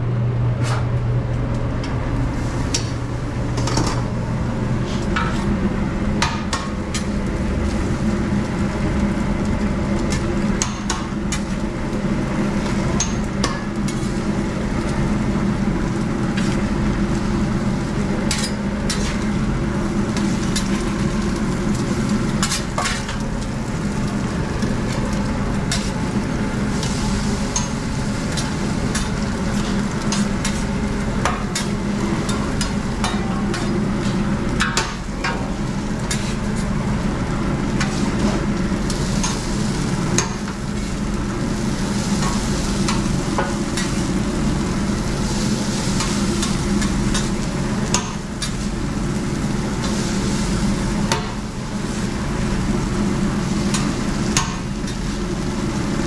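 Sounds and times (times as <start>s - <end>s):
food sizzling: 2.3s - 56.0s.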